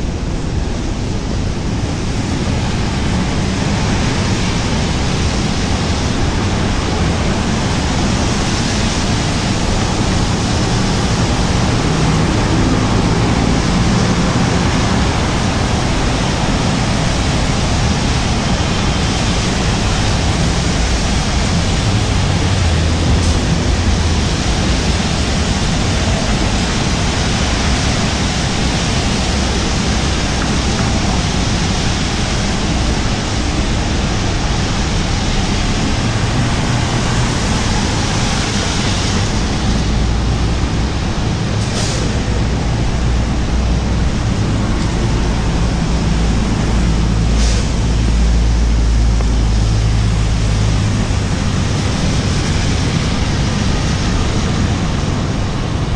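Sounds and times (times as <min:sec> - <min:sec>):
car tyres on wet asphalt: 0:00.0 - 0:55.9
deep vehicle rumble: 0:00.0 - 0:55.9
rain hissing: 0:05.8 - 0:55.8.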